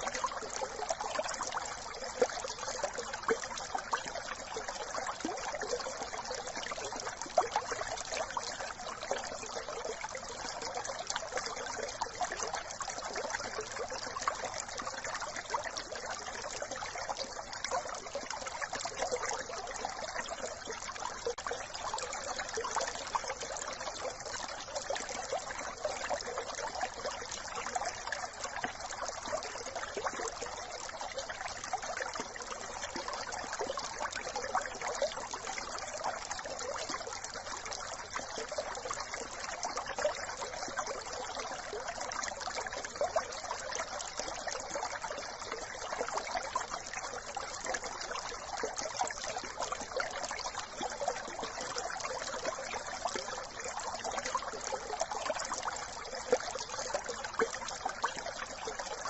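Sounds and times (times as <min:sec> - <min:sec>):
brook babbling over stones: 0:00.0 - 0:59.0.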